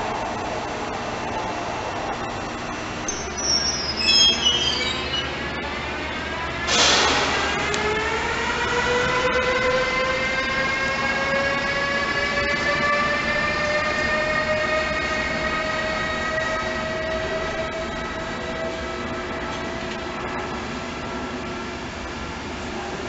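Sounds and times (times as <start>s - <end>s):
electric locomotive whine rising: 0.0s - 22.9s
train rumbling on rails: 0.0s - 23.0s.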